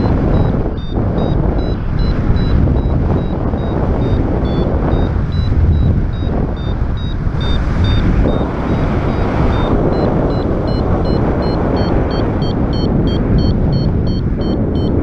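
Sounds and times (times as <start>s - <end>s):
variometer beeping: 0.0s - 15.0s
wind buffeting microphone: 0.0s - 15.0s.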